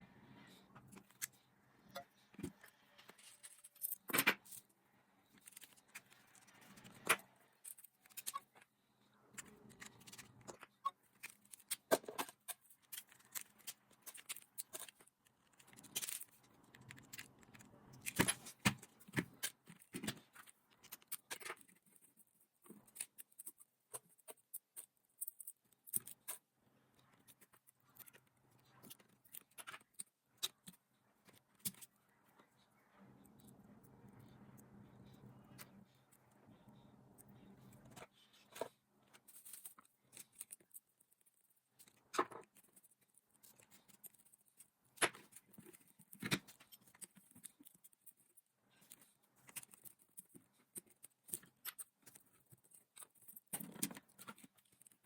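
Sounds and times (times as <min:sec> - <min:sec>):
clatter of small tools and parts: 0:00.8 - 0:32.7, 0:37.1 - 0:55.0.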